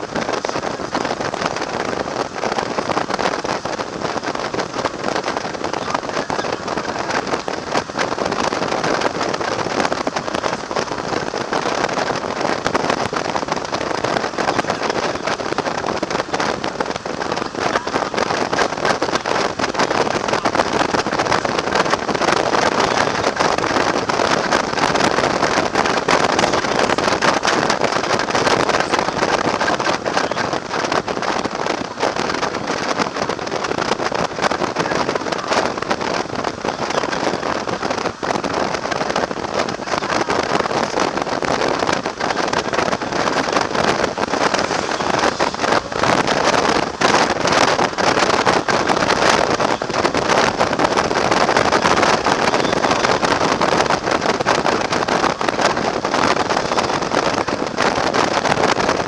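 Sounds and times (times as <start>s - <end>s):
motorcycle road noise: 0.0s - 59.0s
wind buffeting microphone: 0.0s - 59.0s.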